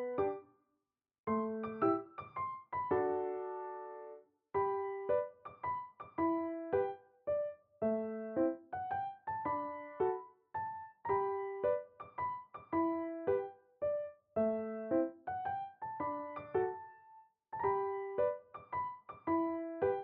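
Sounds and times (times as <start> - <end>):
soft piano music: 0.0 - 0.5, 1.3 - 20.0.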